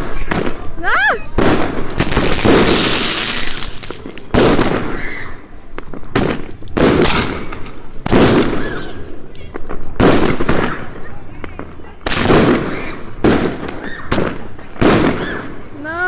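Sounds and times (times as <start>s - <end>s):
fireworks bangs with crackling hiss: 0.0s - 16.0s.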